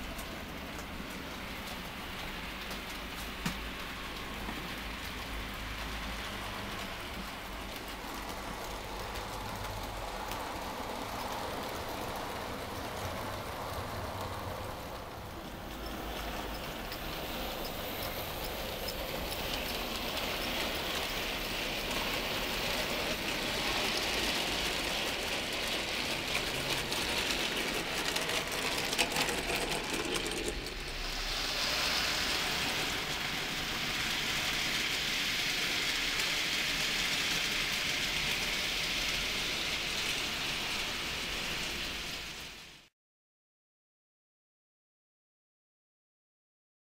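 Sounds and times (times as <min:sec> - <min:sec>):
wheels clicking over track joints: 0:00.0 - 0:42.4
model train wheels rattling on rail: 0:00.0 - 0:42.8.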